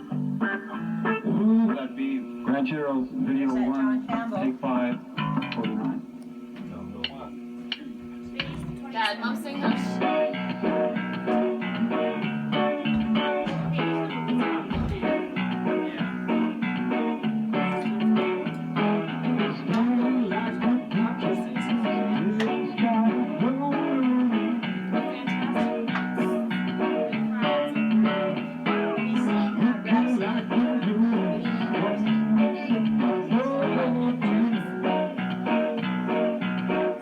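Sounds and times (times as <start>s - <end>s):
bending electric guitar notes: 0.0s - 1.8s, 5.2s - 6.0s, 9.6s - 37.0s
blues-rock band music: 0.0s - 2.6s, 5.2s - 6.0s, 9.6s - 37.0s.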